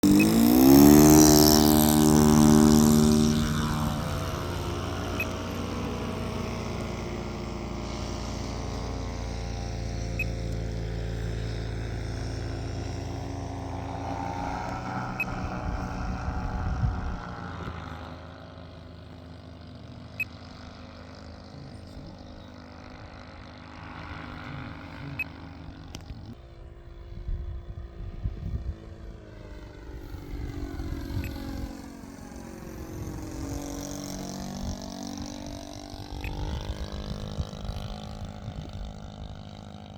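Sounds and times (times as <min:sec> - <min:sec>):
model airplane engine drone: 0:00.0 - 0:39.9.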